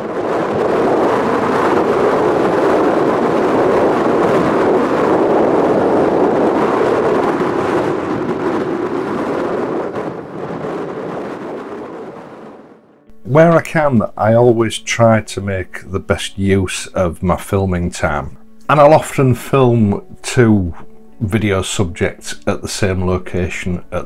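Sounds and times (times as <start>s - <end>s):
strong wind rushing: 0.0s - 24.0s.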